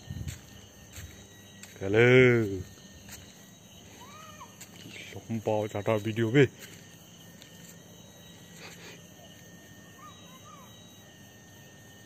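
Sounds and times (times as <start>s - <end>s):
faint chirping calls: 0.0s - 7.0s, 7.9s - 11.2s
thin high tones: 0.0s - 11.1s
faint steady hum: 0.0s - 12.0s.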